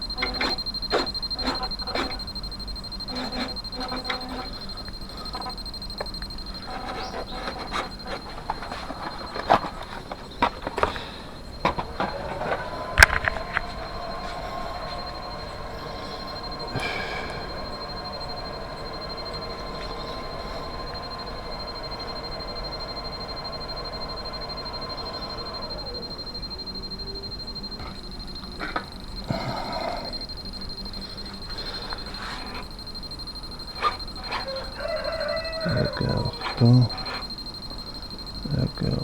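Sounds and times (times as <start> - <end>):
model jet motor whine: 0.0 - 39.0.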